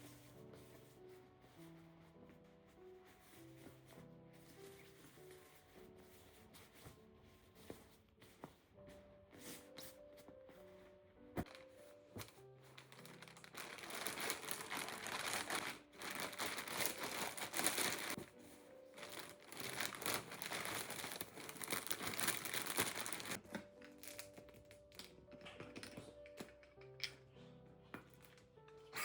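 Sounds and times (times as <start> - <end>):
material crinkling and rustling: 0.0 - 26.7
soft background music: 0.0 - 29.0.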